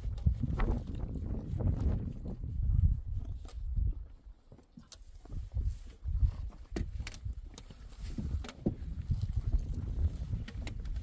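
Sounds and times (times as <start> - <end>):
wind buffeting microphone: 0.0 - 4.4, 5.2 - 11.0.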